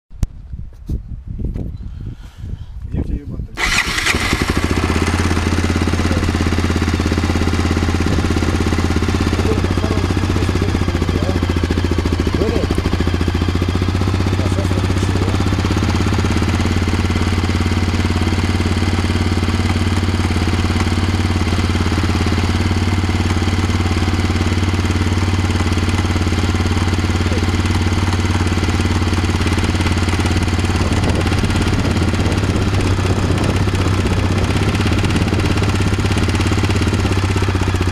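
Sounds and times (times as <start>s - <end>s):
engine knocking: 3.6s - 37.9s
motorcycle engine idling: 3.6s - 37.9s.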